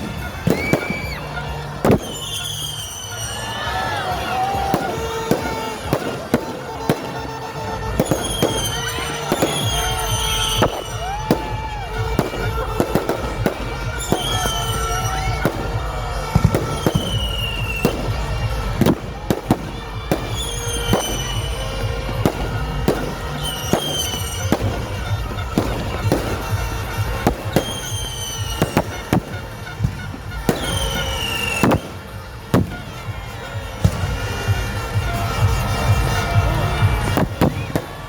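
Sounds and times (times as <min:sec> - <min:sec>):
fireworks bangs and crackles: 0:00.0 - 0:38.0
whistling firework shells: 0:00.0 - 0:38.0.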